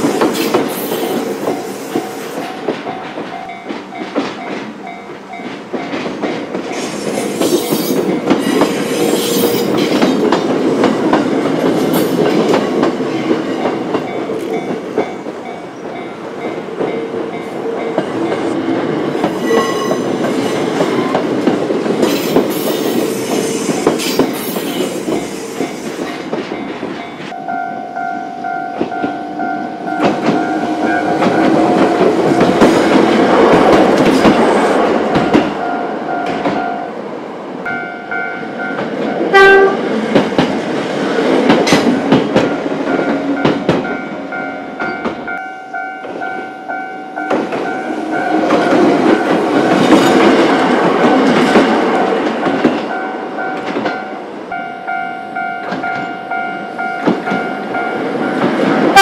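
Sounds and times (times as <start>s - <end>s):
crossing warning bell: 0.0s - 11.2s, 11.8s - 21.3s, 22.0s - 33.6s, 35.1s - 37.0s, 37.7s - 39.8s, 42.4s - 59.0s
train wheels clattering on track: 0.0s - 27.4s, 28.2s - 36.7s, 37.6s - 54.2s, 55.3s - 59.0s.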